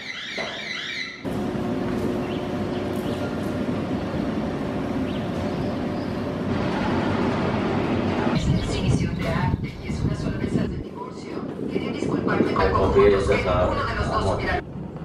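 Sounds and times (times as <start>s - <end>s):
faint hum: 1.2s - 15.0s
cable car machinery rumble: 1.3s - 15.0s.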